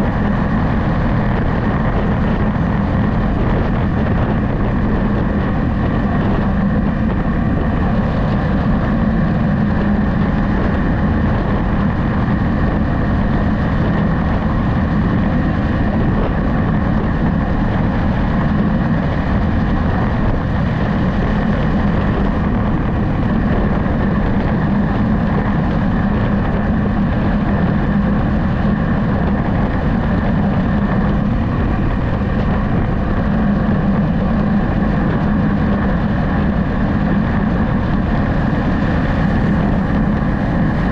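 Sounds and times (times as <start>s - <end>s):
road and wind noise: 0.0s - 40.9s
vehicle engine hum: 0.0s - 40.9s.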